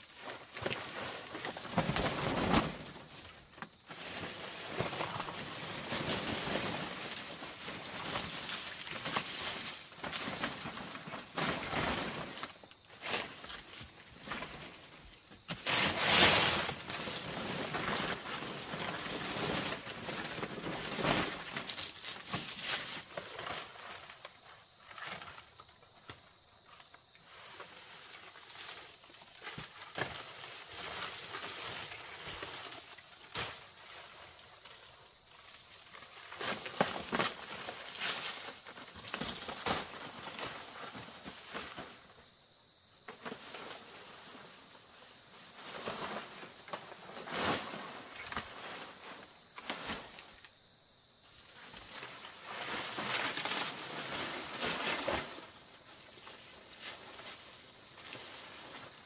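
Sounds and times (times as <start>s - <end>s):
rustling: 0.0s - 42.2s, 43.1s - 50.6s, 51.2s - 59.0s.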